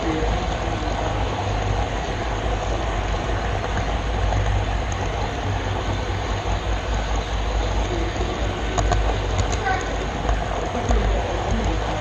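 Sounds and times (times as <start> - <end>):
model train car rolling on track: 0.0 - 12.0.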